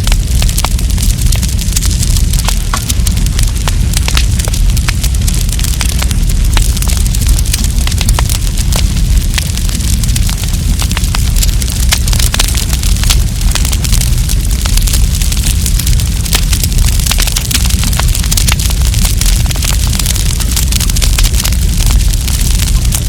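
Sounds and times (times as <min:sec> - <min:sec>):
campfire crackling and popping: 0:00.0 - 0:23.0
low rush of burning: 0:00.0 - 0:23.0.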